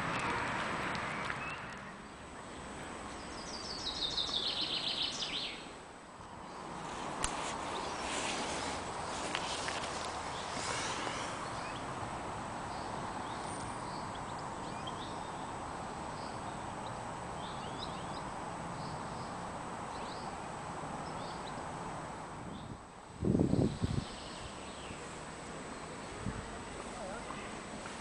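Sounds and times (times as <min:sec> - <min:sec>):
steady background hiss: 0:00.0 - 0:28.0
small birds chirping: 0:01.2 - 0:21.7, 0:23.5 - 0:26.3.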